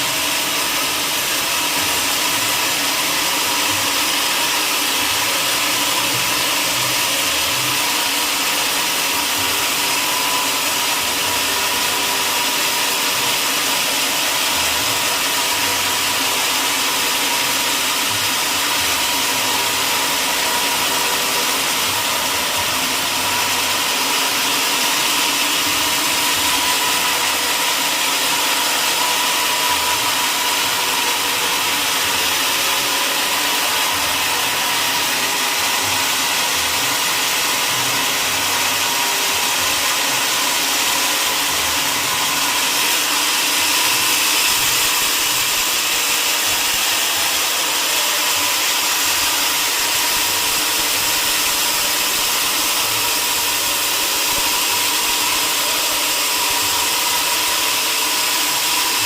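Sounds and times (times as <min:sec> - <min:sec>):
sawmill saw whirring: 0:00.0 - 0:59.0.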